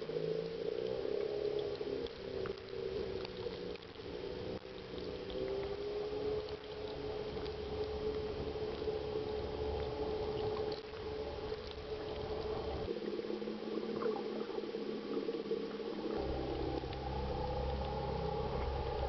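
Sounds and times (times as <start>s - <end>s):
steady low hum: 0.0s - 19.0s
water rushing and bubbling: 0.0s - 19.0s.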